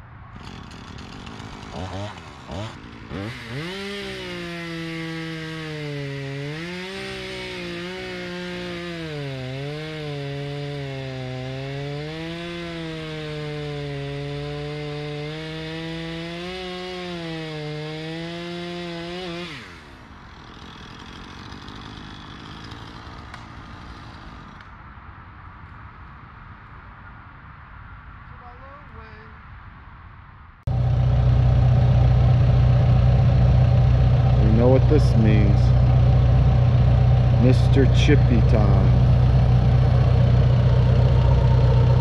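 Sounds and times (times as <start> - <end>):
chainsaw cutting wood: 0.4 - 24.8, 30.7 - 42.0.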